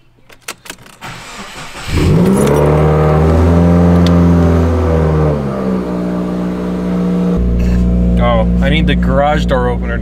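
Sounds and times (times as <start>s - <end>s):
car engine starting and idling: 0.4s - 10.0s.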